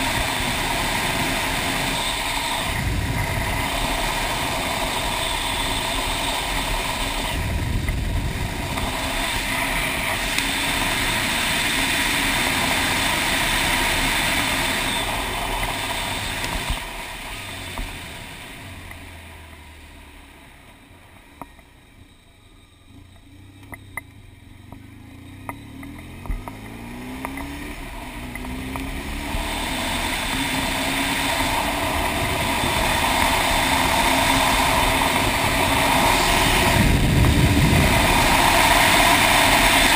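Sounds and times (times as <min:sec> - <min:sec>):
motorcycle engine accelerating: 0:00.0 - 0:39.9
wind and road rush: 0:00.0 - 0:39.9.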